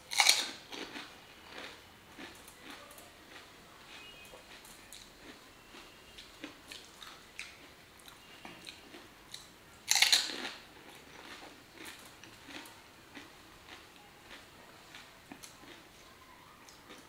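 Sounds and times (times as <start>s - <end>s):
crisp crunch of fried shell: 0.0s - 15.9s
chewing: 0.1s - 17.0s.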